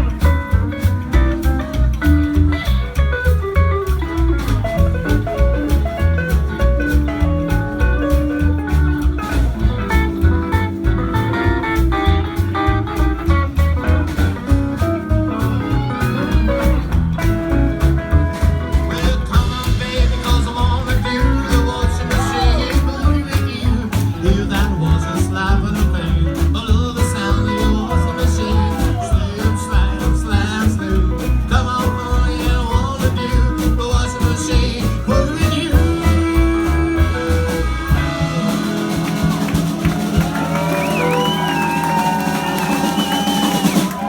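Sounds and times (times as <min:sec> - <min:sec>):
guitar melody: 0:00.0 - 0:42.7
live band playing boogie: 0:00.0 - 0:44.0.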